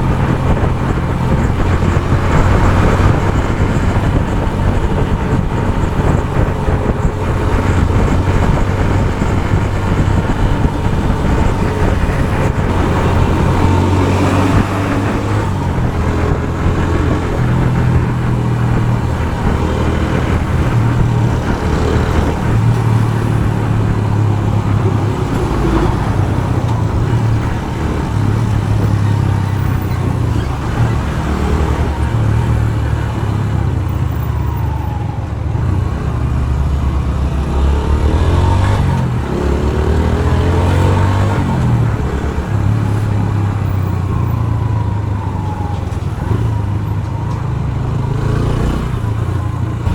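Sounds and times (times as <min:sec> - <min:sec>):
motorcycle engine: 0:00.0 - 0:49.9
road and traffic noise: 0:00.0 - 0:49.9.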